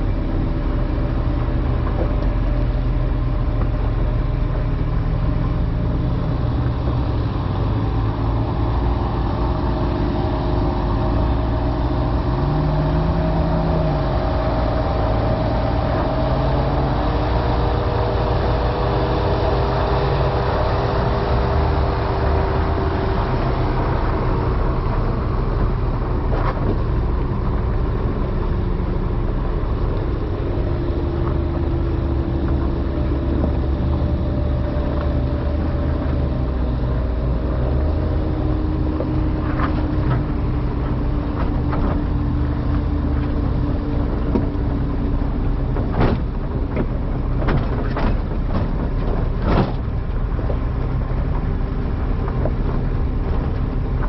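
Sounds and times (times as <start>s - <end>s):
engines of following trucks: 0.0s - 54.0s
truck engine running at low revs: 0.0s - 54.0s.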